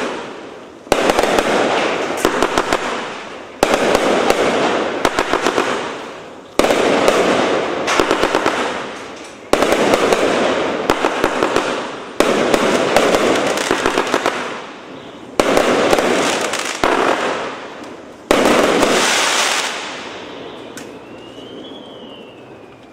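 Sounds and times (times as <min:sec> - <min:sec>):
fireworks bursts: 0:00.0 - 0:22.9
fireworks crackling: 0:00.0 - 0:22.9.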